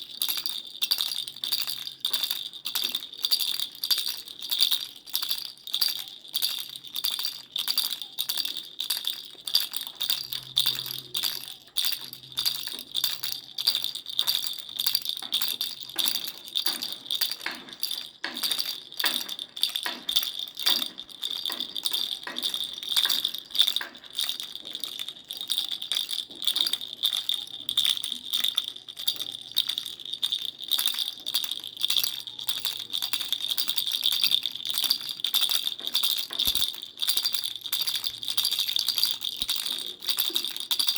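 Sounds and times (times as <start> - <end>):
baby rattle shaking: 0.0 - 40.9.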